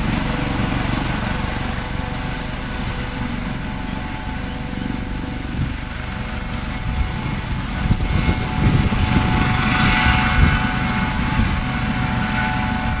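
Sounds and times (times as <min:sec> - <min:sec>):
helicopter rotor and whine: 0:00.0 - 0:13.0.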